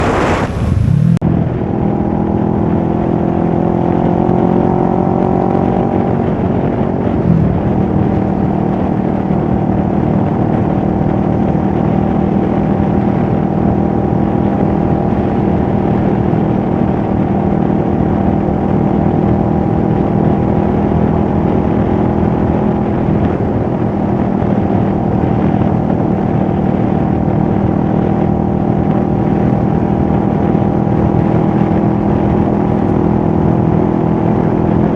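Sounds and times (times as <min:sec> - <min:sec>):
motorcycle engine running: 0:00.7 - 0:34.9.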